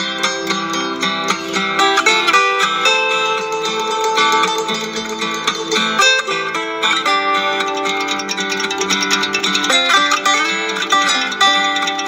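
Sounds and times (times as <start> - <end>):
plucked string instrument music: 0.0 - 12.0.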